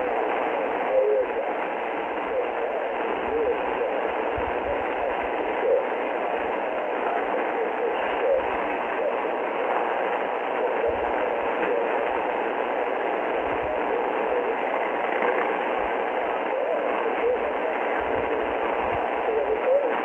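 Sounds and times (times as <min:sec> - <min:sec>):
faint radio broadcast: 0:00.0 - 0:20.0
radio static hiss: 0:00.0 - 0:20.0.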